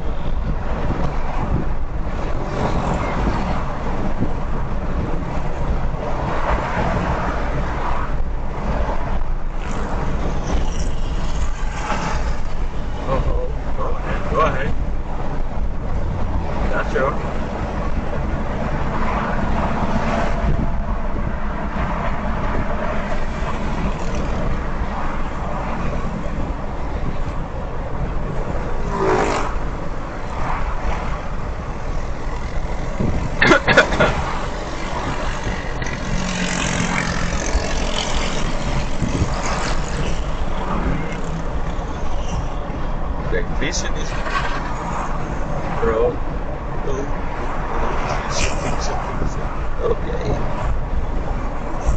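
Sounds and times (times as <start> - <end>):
car driving at highway speed: 0.0 - 51.9.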